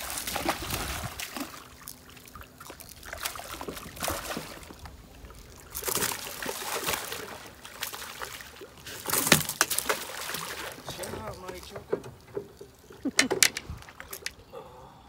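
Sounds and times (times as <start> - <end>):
small water splashes: 0.0 - 13.2
water trickling and sloshing: 0.0 - 14.5.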